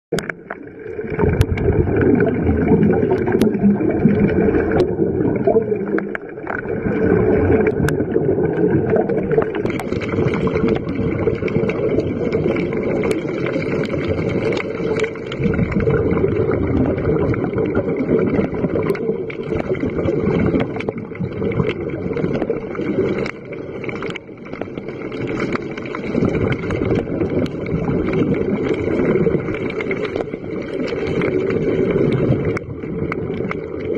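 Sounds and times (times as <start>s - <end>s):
underwater low rushing: 0.1s - 33.9s.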